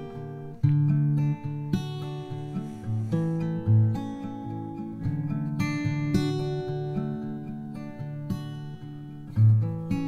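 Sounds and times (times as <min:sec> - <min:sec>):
acoustic guitar plucked and strummed: 0:00.0 - 0:10.0.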